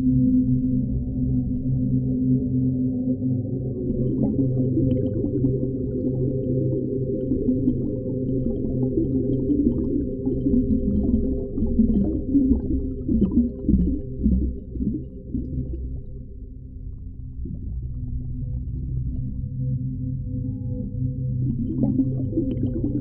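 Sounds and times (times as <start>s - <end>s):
deep underwater rumble: 0.0s - 23.0s
wavering low moans: 3.4s - 23.0s.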